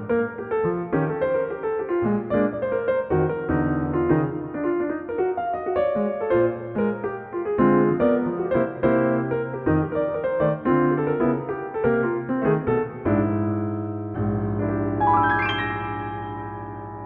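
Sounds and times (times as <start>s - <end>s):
jazz piano: 0.0s - 17.0s.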